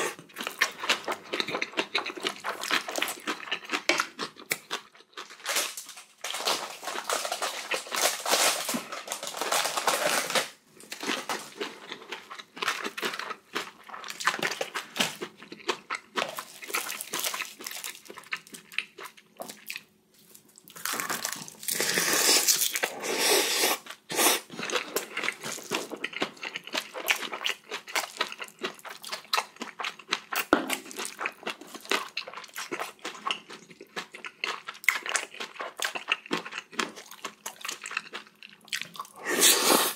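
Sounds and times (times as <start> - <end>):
person chewing and smacking: 0.0 - 5.6, 10.8 - 22.9, 23.7 - 39.9.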